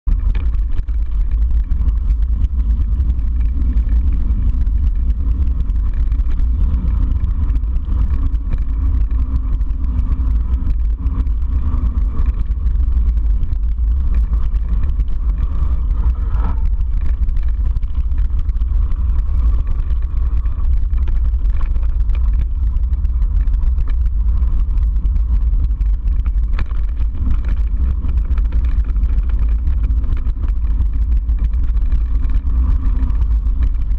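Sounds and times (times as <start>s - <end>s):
wind on microphone: 0.0s - 33.9s
bike tyres rolling on gravel: 0.1s - 33.9s.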